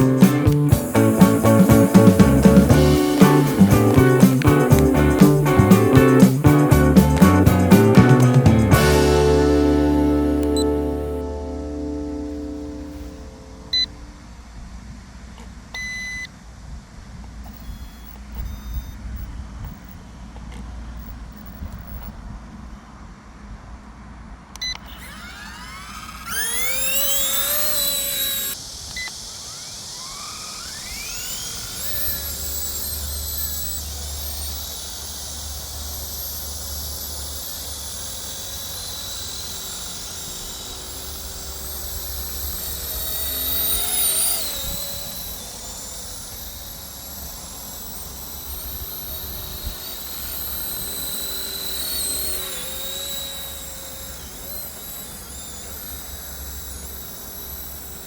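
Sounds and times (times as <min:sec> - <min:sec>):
toy helicopter rotors whining: 0:00.0 - 0:14.2, 0:17.4 - 0:20.0, 0:24.6 - 0:58.0.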